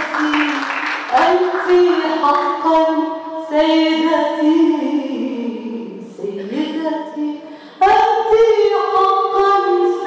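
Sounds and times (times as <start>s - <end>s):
woman singing unaccompanied: 1.1s - 10.0s.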